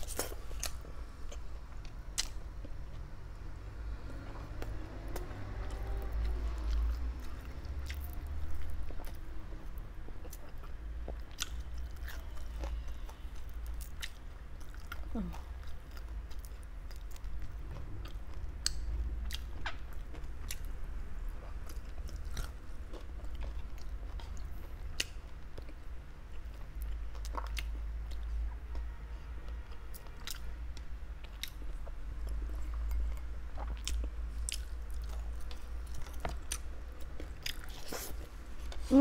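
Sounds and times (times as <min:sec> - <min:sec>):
person chewing meat: 0:00.0 - 0:03.3, 0:04.1 - 0:38.9
steady low hum: 0:00.0 - 0:39.0.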